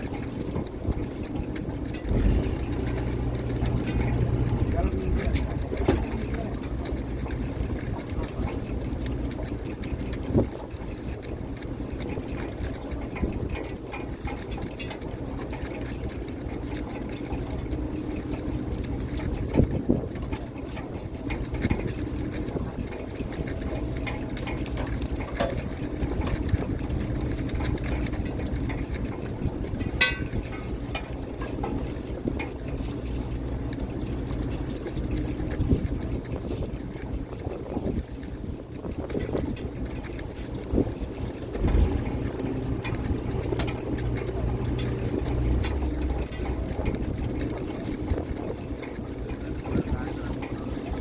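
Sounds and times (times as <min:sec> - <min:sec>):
boat engine running: 0:00.0 - 0:51.0.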